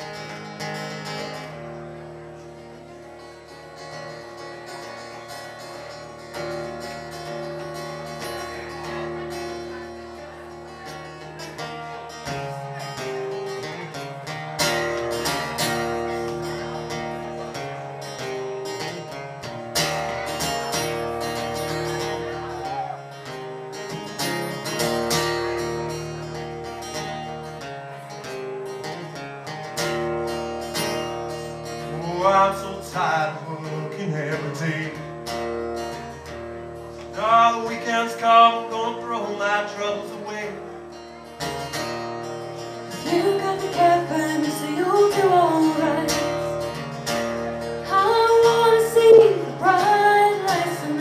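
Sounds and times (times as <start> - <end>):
folk band playing: 0.0 - 51.0
strummed acoustic guitar: 0.0 - 51.0.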